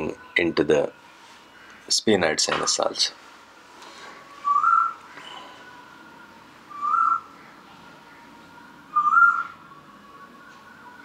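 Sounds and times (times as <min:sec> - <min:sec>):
faint steady tone: 0:00.0 - 0:11.0.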